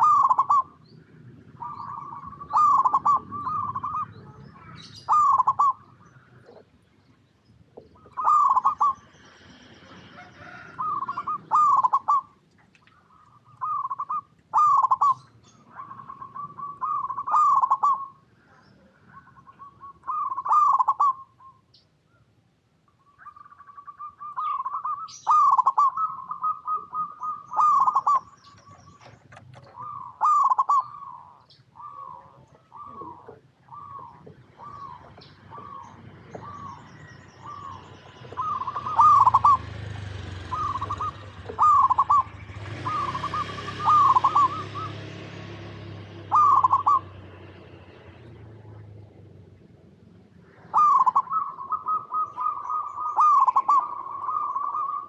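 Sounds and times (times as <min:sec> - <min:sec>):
dove cooing: 0:00.0 - 0:06.8, 0:07.8 - 0:21.6, 0:23.2 - 0:55.0.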